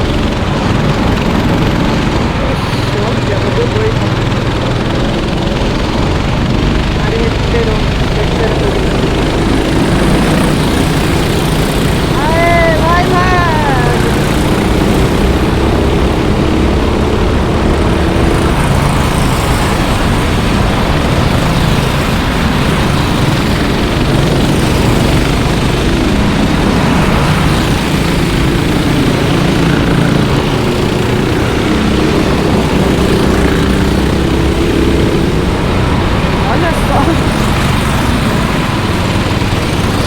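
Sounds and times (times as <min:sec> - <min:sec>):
kart engine passing close: 0:00.0 - 0:40.0
kart engines buzzing: 0:00.0 - 0:40.0.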